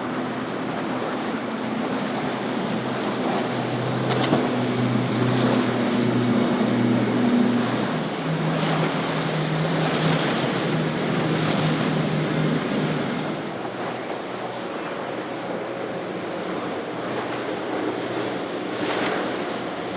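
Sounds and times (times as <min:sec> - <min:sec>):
hull wash and surf: 0:00.0 - 0:19.9
outboard boat engines droning: 0:00.0 - 0:19.9.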